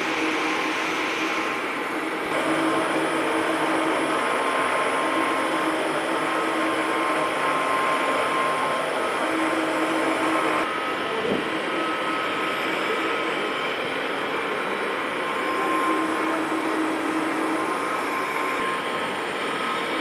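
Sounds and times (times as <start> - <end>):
grinding machine whirring hiss: 0.0 - 20.0.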